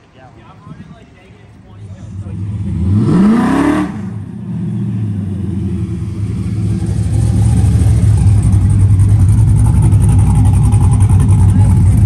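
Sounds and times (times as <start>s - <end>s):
car engine running: 1.8s - 12.0s.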